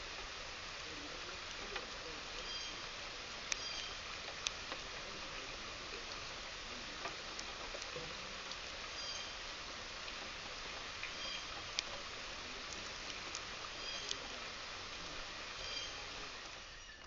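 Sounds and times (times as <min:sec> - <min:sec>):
small birds chirping: 0:00.0 - 0:17.0
steady rain falling: 0:00.0 - 0:17.0
drips and taps of drops: 0:01.4 - 0:09.4, 0:10.0 - 0:17.0.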